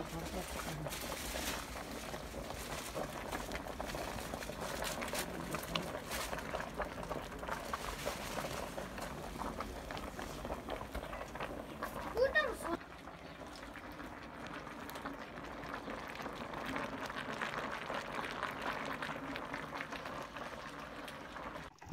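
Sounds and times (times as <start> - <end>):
pot boiling with bubbling pops: 0.0 - 21.9.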